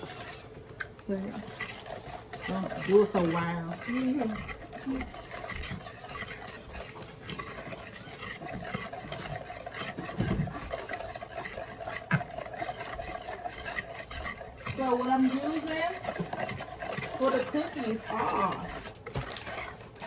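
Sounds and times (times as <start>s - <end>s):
whisk stirring liquid in bowl: 0.0s - 20.0s
whisk ticking against bowl: 0.0s - 20.0s.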